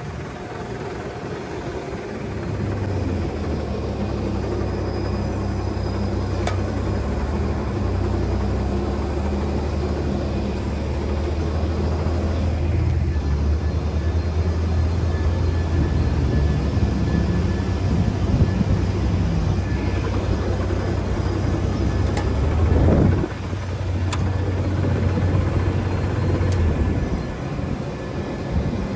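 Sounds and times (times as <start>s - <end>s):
baggage tug engine running: 0.0s - 28.9s
road noise: 0.0s - 28.9s.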